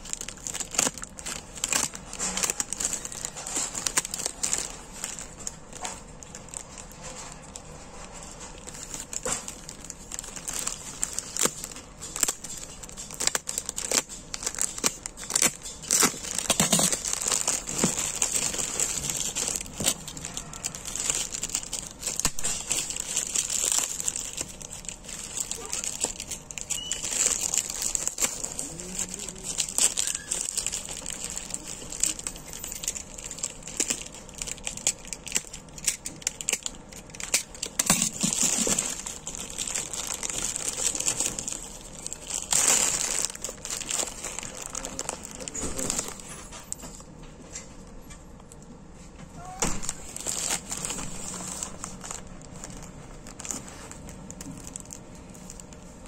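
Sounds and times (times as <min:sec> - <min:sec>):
plastic bag tearing: 0:00.0 - 0:46.8, 0:49.4 - 0:56.0
plastic wrapping crinkling: 0:00.0 - 0:56.0.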